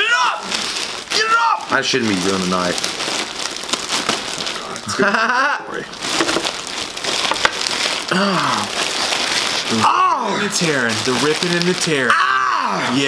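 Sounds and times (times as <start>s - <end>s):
plastic bag crinkling and ripping: 0.0s - 13.0s.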